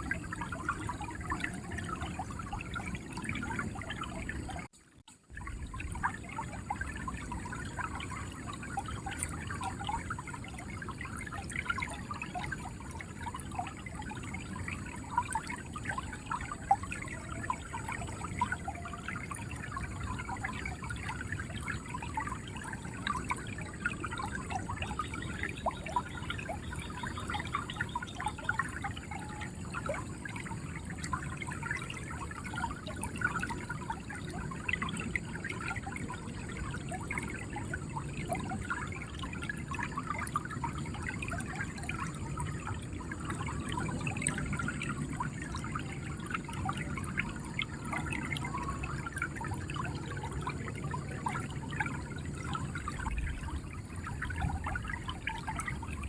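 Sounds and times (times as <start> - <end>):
river water flowing: 5.3 - 56.0.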